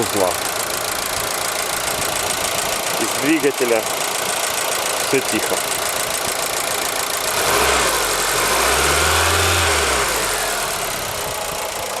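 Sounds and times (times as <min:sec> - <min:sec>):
engine ticking: 0:00.0 - 0:12.0
petrol engine idling and revving: 0:00.0 - 0:12.0.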